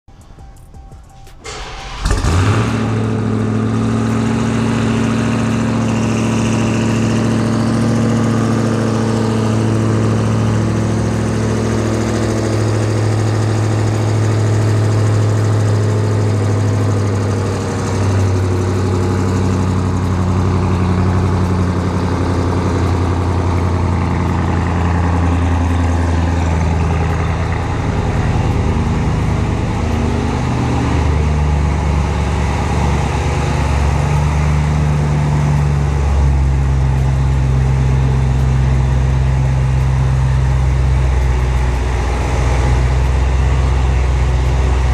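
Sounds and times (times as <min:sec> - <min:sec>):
car engine idling through exhaust: 0:00.1 - 0:44.9.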